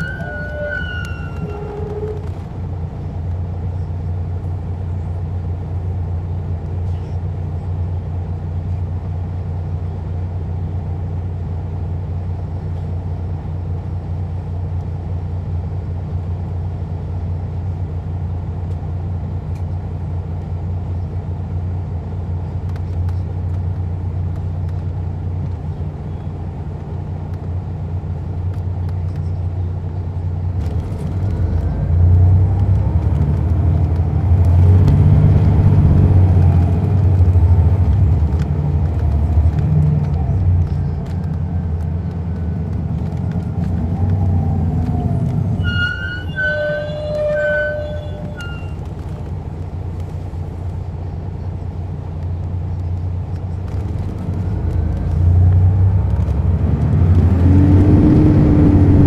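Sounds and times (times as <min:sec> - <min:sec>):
bus engine humming: 0:00.0 - 0:59.0.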